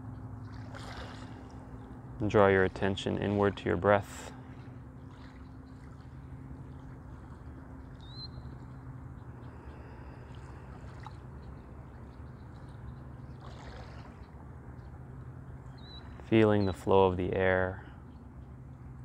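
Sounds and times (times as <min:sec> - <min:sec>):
low even hum: 0:00.0 - 0:19.0.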